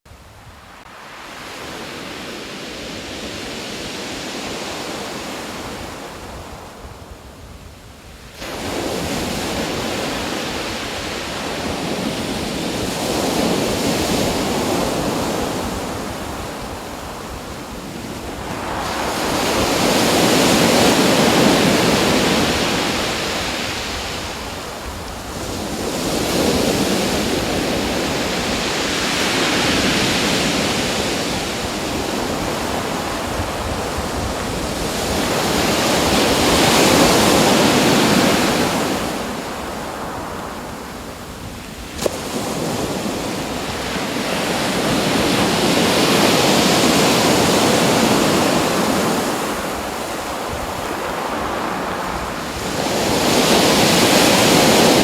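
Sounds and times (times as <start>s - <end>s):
waves breaking: 8.4s - 55.0s.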